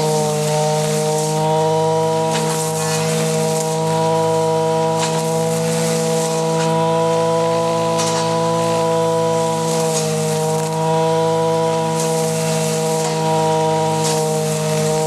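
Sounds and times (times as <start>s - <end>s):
blade swishing through grass: 0.0s - 15.0s
brush cutter engine running: 0.0s - 15.0s.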